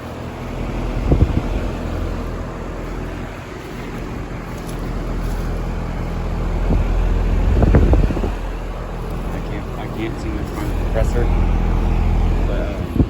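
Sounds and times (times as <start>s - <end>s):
heat pump unit humming: 0.0s - 13.0s
low rumble: 0.0s - 13.0s.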